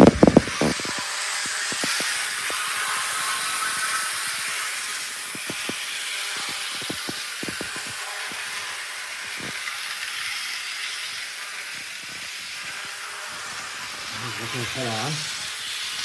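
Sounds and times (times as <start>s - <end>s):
model locomotive hiss: 0.0s - 16.0s.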